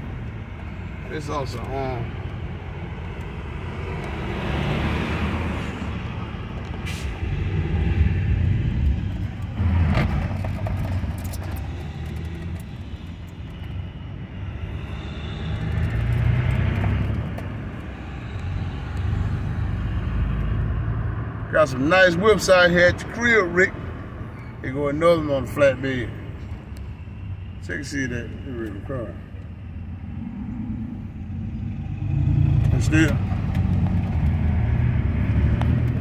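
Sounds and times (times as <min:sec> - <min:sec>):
engine and tyre rumble: 0:00.0 - 0:36.0.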